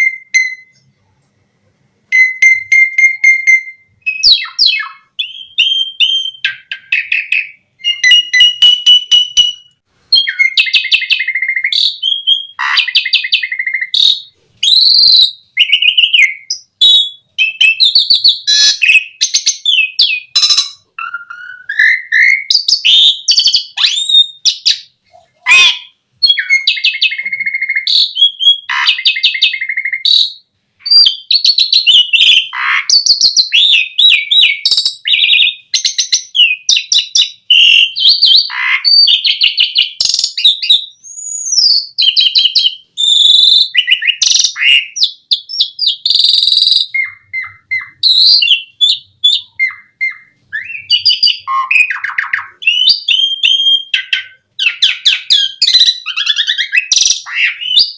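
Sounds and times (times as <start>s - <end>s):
starling singing: 2.1s - 57.9s.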